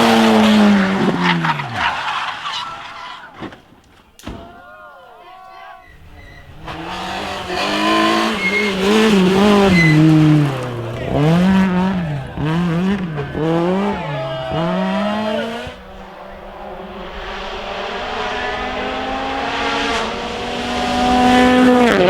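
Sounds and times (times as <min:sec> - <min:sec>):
rally car engine revving: 0:00.0 - 0:03.7, 0:05.9 - 0:22.0.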